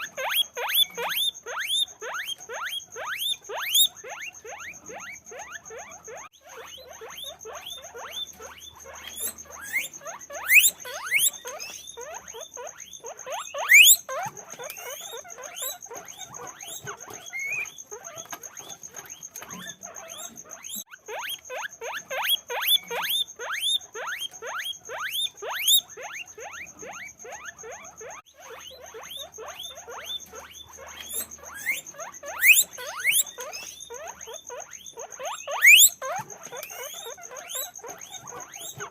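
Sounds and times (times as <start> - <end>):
guinea pigs squeaking: 0.0 - 38.9.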